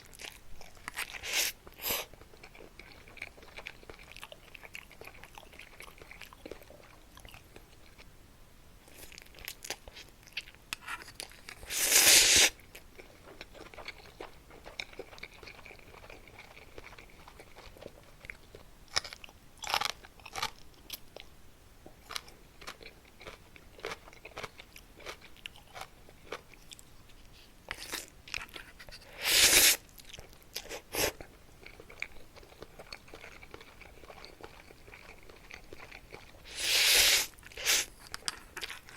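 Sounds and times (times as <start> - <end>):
crunching and chewing snack: 0.0 - 8.1, 8.8 - 21.3, 21.9 - 38.9.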